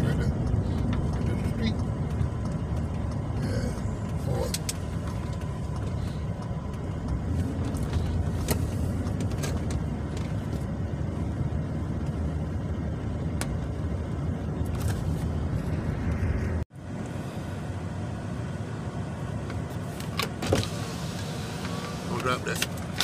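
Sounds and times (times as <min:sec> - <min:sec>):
truck cab road rumble: 0:00.0 - 0:23.0.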